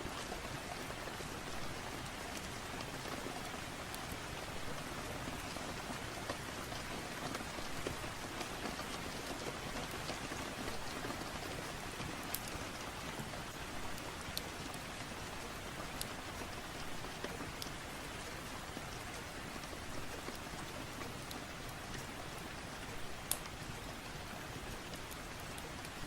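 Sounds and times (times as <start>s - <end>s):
steady rain patter: 0.0s - 26.0s.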